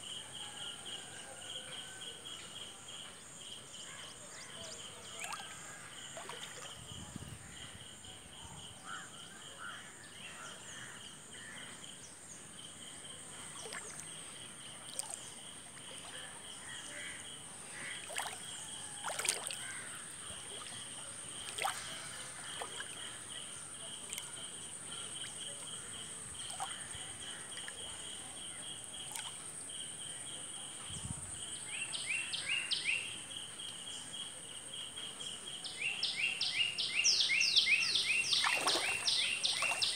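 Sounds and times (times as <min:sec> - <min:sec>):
insect chirping: 0:03.4 - 0:39.9.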